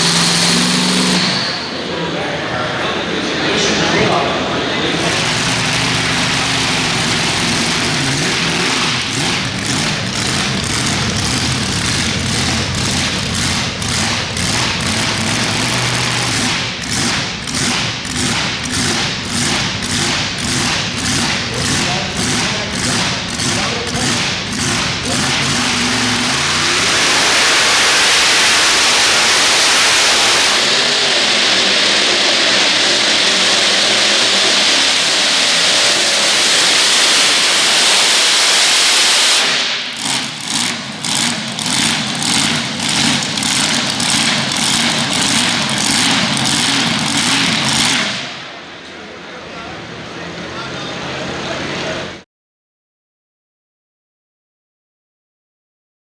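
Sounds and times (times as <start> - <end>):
loud steady rushing noise: 0.0 - 52.2
tractor engine running hard: 0.0 - 52.2.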